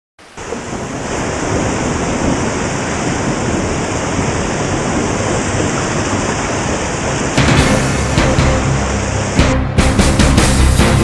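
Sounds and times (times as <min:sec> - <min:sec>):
floodwater rushing: 0:00.2 - 0:11.0.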